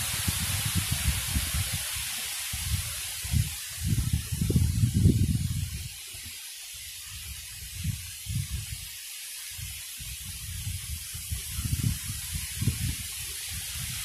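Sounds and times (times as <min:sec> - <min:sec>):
wind buffeting microphone: 0:00.0 - 0:06.0, 0:07.1 - 0:08.9, 0:09.6 - 0:14.0
steady hiss: 0:00.0 - 0:14.0.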